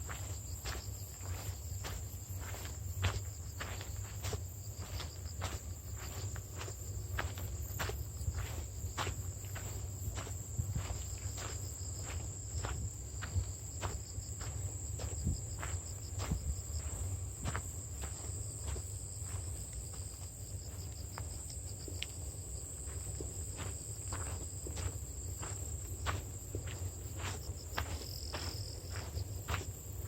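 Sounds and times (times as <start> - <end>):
footsteps walking: 0.0 - 30.0.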